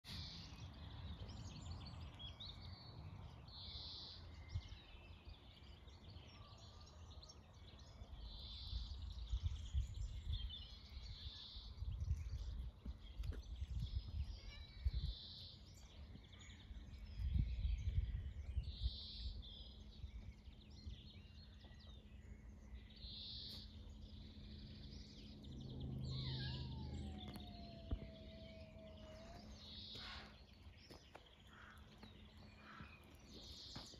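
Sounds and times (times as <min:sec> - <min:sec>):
songbird singing: 0:00.0 - 0:33.9
wind rumble on microphone: 0:00.1 - 0:33.9.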